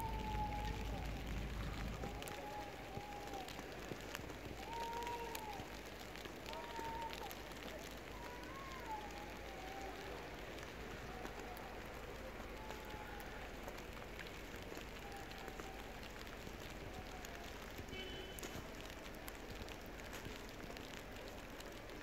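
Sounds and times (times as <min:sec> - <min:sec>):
outdoor hiss during snowfall: 0:00.0 - 0:22.0
small scattered ticks: 0:00.0 - 0:22.0.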